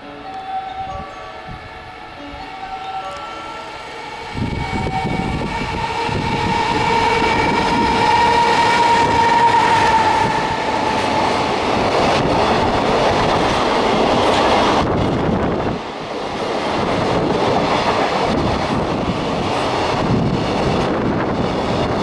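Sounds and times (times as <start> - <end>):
freight train wheels on rail: 0.0 - 22.0.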